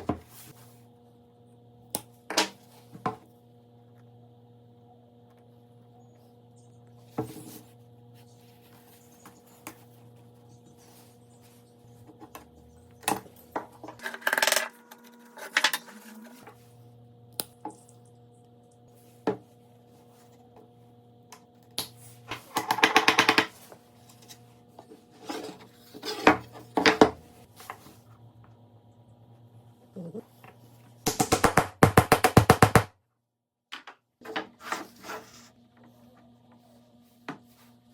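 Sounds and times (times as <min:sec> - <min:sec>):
steady low hum: 0:00.0 - 0:31.8.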